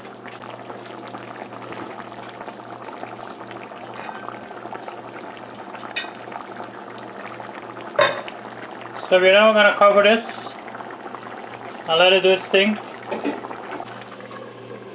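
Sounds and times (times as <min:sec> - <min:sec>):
curry bubbling in a pot: 0:00.0 - 0:14.9.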